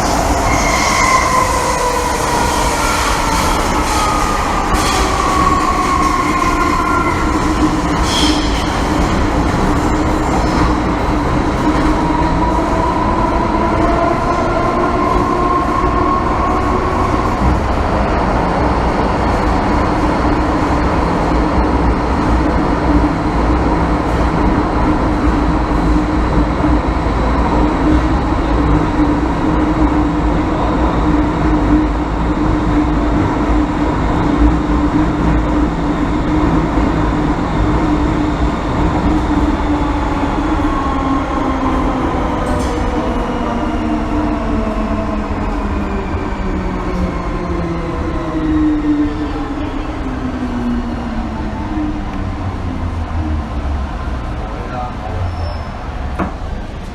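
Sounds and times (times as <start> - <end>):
train rolling rumble: 0.0 - 56.9.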